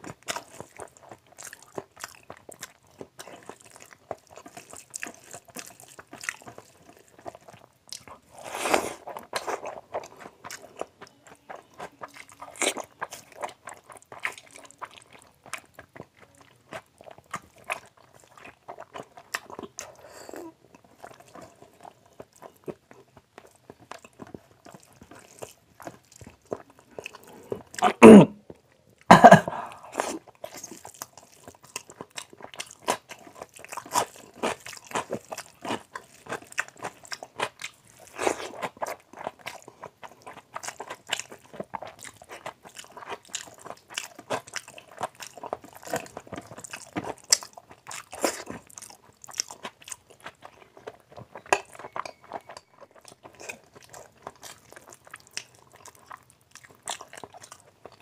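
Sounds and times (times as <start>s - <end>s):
wet chewing and smacking: 0.0s - 58.0s
fingers squishing rice in curry: 0.1s - 20.0s, 30.0s - 58.0s.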